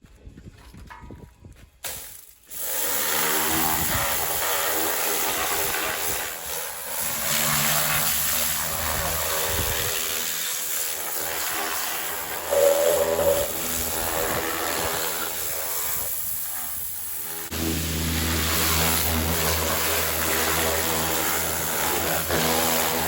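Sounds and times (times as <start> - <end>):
pressure washer spraying: 1.8 - 23.0.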